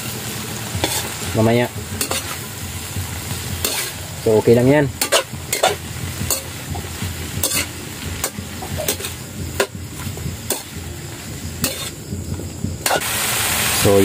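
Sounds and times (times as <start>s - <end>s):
greens sizzling in a wok: 0.0s - 14.0s
spatula scraping a pan: 0.6s - 12.2s, 12.8s - 13.1s.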